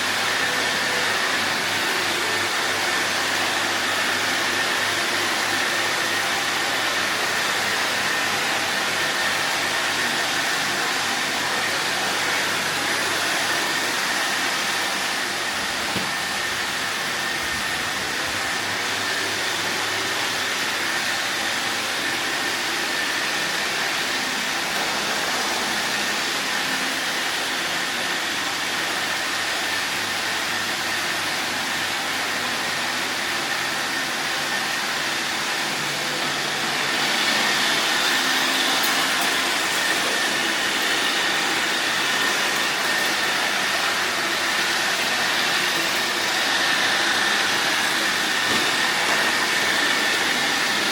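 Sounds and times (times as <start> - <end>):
robot vacuum cleaner whirring: 0.0 - 50.9.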